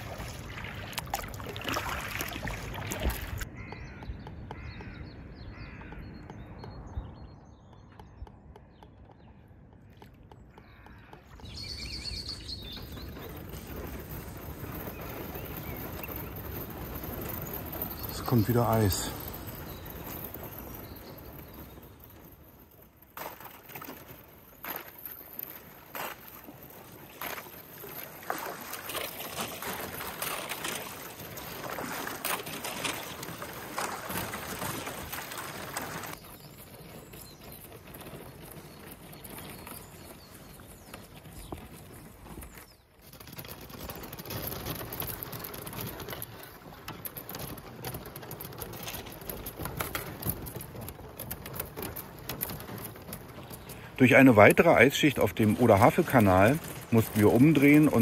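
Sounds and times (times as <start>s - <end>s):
paddle strokes in water: 0.0s - 4.9s, 9.6s - 58.0s
ice crackling against hulls: 0.0s - 58.0s.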